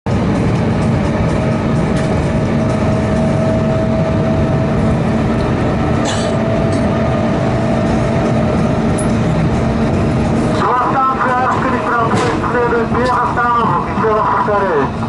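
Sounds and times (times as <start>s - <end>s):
rumble of train wheels on rail: 0.1s - 15.0s.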